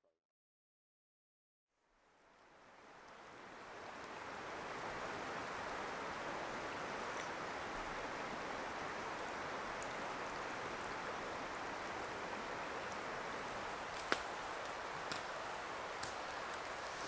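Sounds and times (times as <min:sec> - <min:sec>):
river flowing over rocks: 0:02.5 - 0:17.0.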